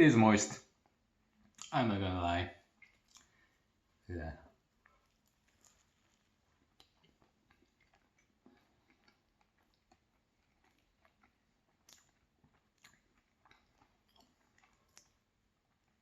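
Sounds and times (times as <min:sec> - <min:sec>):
chewing with wet mouth clicks: 0:00.7 - 0:01.8, 0:02.7 - 0:03.7, 0:04.7 - 0:16.0.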